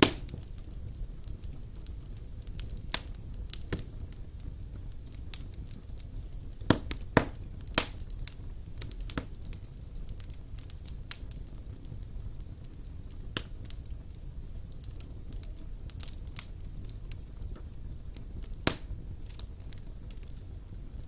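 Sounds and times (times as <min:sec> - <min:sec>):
burning logs crackling and popping: 0:00.0 - 0:21.0
low rumble of flames: 0:00.0 - 0:21.0.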